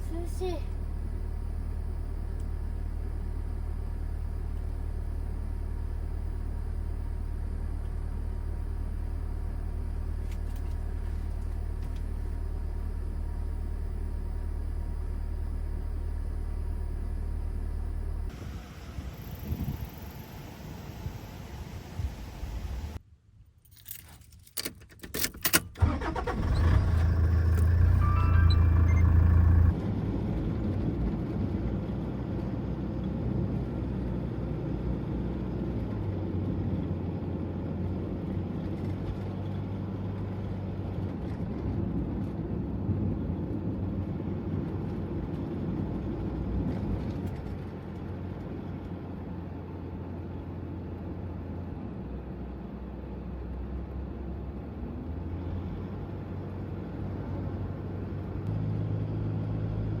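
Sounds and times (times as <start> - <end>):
van engine hum: 0.0 - 23.0, 25.0 - 60.0
road noise: 7.5 - 23.0, 25.8 - 60.0.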